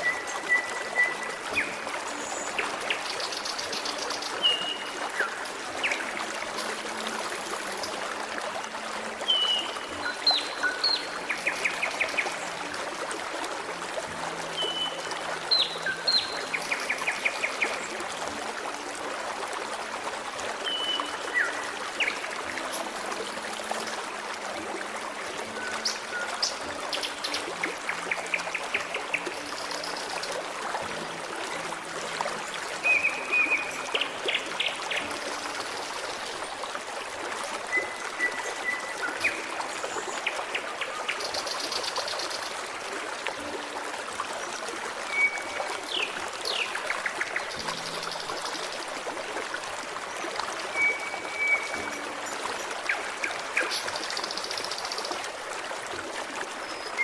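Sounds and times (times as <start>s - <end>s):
forest stream babbling: 0.0s - 57.0s.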